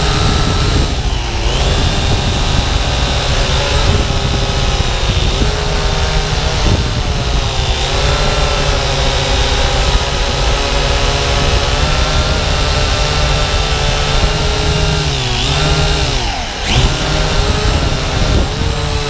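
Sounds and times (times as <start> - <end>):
drone propellers whining: 0.0 - 19.0
rushing air rumble: 0.0 - 19.0.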